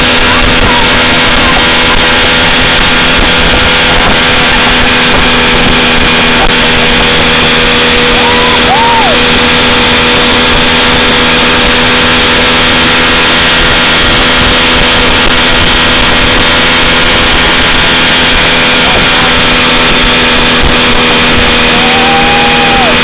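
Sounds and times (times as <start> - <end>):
boat wake rushing: 0.0 - 23.0
outboard motor running: 0.0 - 23.0.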